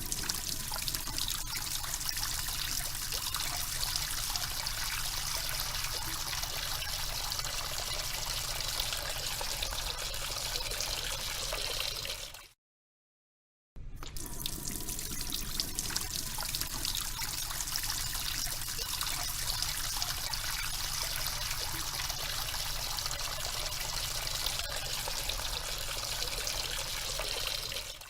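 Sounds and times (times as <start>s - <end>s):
tap water running into sink: 0.0s - 12.4s, 14.0s - 28.0s.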